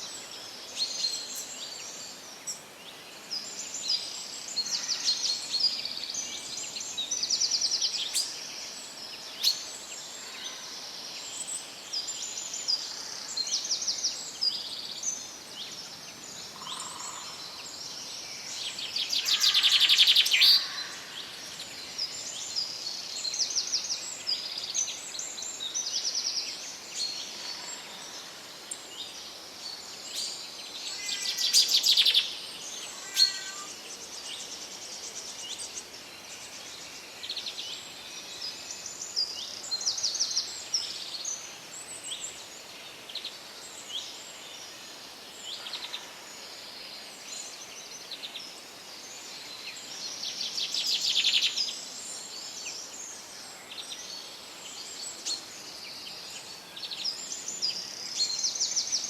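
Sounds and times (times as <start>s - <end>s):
faint steady hiss: 0.0s - 59.0s
wild birds singing and calling: 0.0s - 59.0s.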